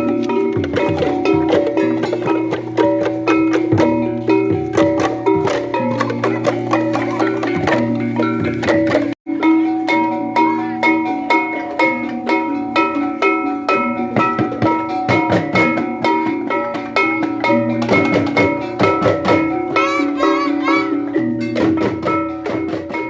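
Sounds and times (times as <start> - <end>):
ringing pitched gamelan notes: 0.0 - 23.0
struck bamboo percussion: 0.0 - 23.0.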